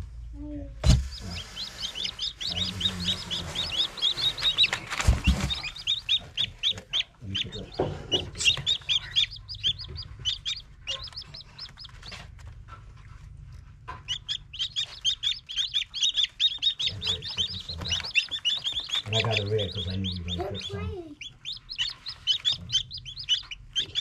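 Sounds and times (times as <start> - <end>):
chicks peeping: 0.8 - 24.0.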